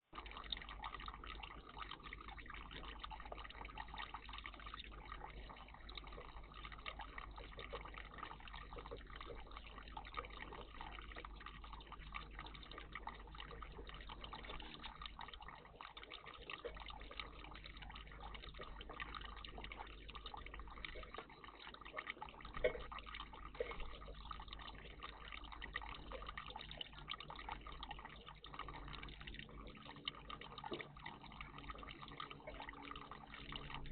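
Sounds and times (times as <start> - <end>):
water trickling and dripping: 0.0 - 33.9.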